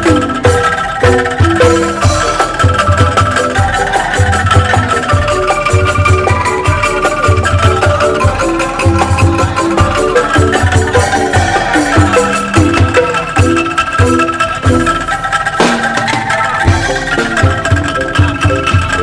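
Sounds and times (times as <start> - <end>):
bamboo mallet notes: 0.0 - 19.0
drums: 0.0 - 19.0.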